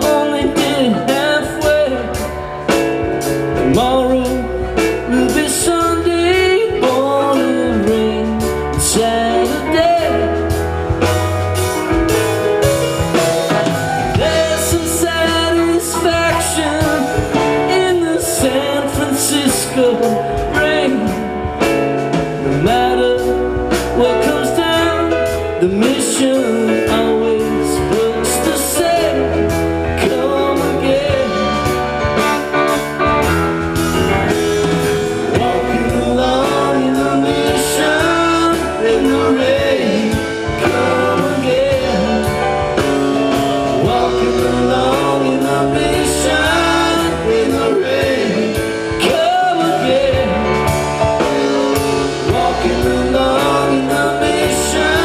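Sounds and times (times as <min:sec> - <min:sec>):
electric guitar lead with bending notes: 0:00.0 - 0:55.0
live rock band playing: 0:00.0 - 0:55.0.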